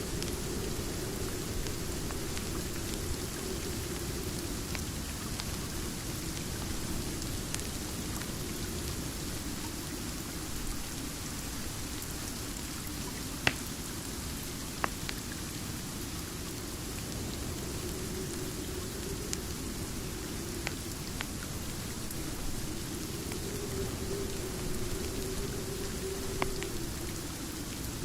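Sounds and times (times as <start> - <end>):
faint raindrop ticks: 0.0 - 28.0
steady rain hiss: 0.0 - 28.0.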